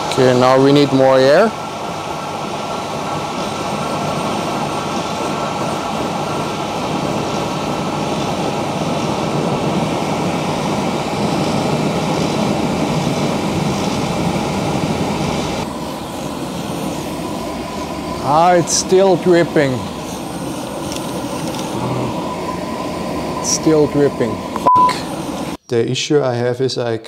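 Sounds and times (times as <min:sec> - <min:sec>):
burner flame and blower rushing: 0:00.0 - 0:25.6.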